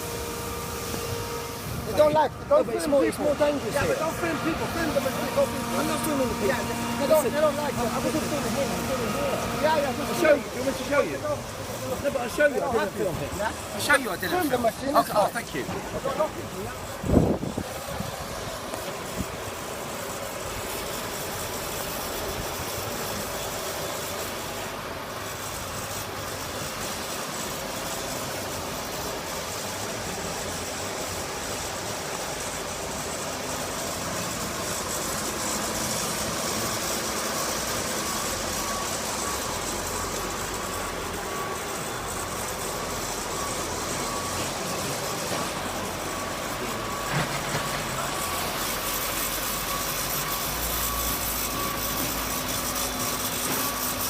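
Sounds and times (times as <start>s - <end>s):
cement mixer truck engine running: 0.0s - 54.0s.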